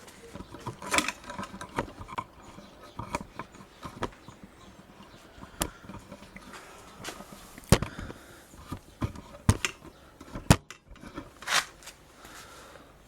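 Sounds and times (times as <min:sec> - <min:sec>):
sharp knocks and clicks: 0:00.0 - 0:11.3
low background noise: 0:00.0 - 0:13.0.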